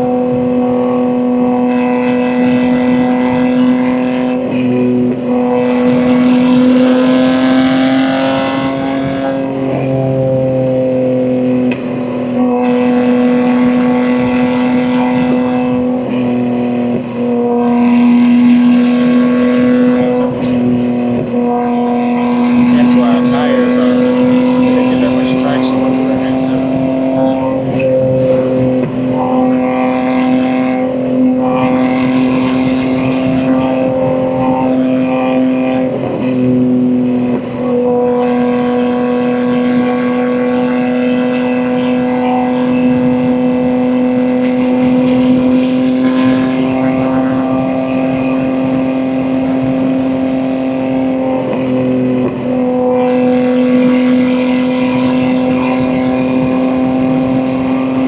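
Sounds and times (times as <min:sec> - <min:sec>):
car engine droning while cruising: 0:00.0 - 0:58.0.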